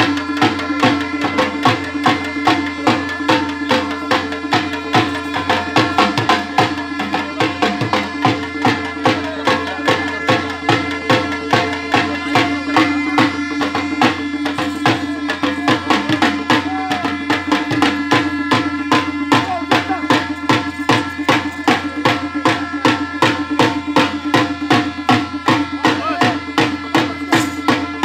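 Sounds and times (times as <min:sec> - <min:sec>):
loud music with fast drumbeat: 0:00.0 - 0:28.0
sustained note: 0:00.1 - 0:28.0.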